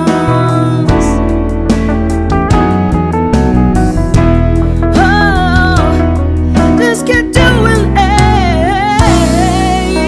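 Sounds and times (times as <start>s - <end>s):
live band playing pop ballad: 0.0s - 10.0s.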